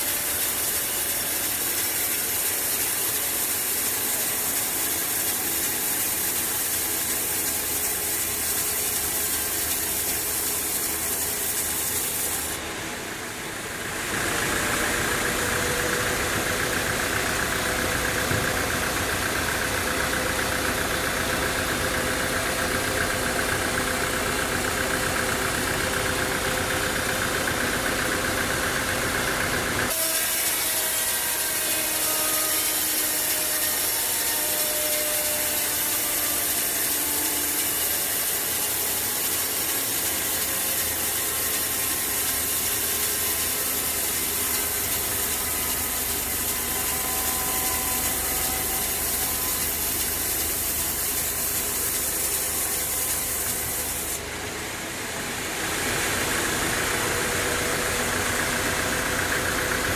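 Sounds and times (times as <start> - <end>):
sawmill saw cutting timber: 0.0 - 59.9.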